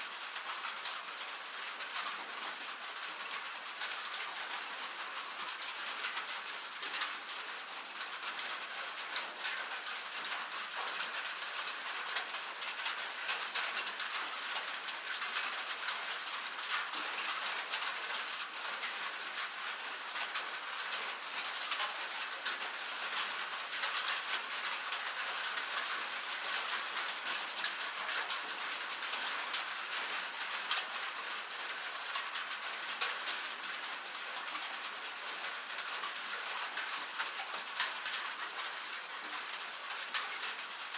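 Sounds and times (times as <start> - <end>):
rain on a metal roof: 0.0 - 40.9.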